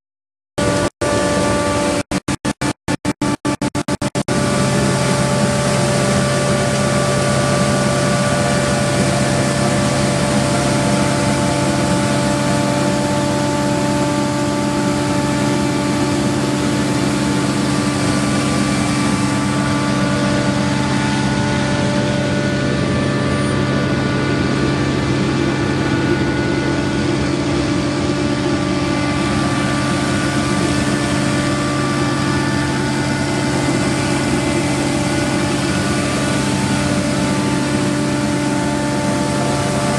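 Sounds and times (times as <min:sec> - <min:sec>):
street sweeper engine humming: 0:00.6 - 0:02.6, 0:03.2 - 0:39.9
rushing air noise: 0:00.6 - 0:39.9.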